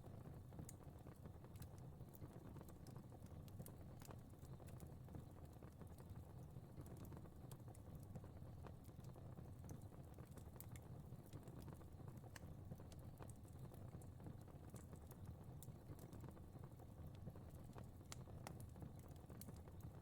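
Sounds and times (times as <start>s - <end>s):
fire crackling faintly: 0.0s - 20.0s
low rumble of fire: 0.0s - 20.0s.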